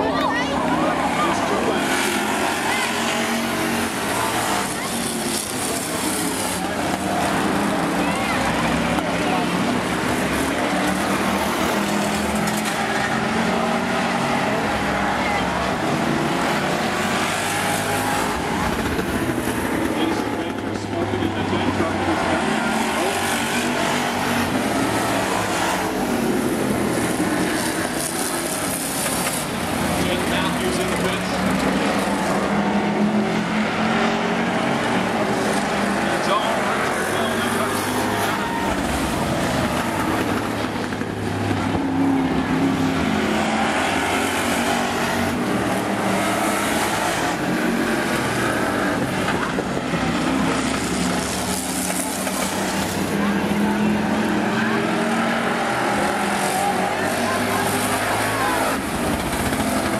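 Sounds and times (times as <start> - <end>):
many race car engines: 0.0 - 59.9.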